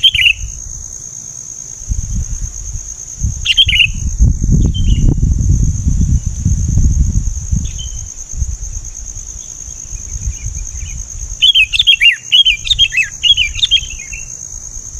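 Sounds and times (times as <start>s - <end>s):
high insect drone: 0.0s - 14.9s.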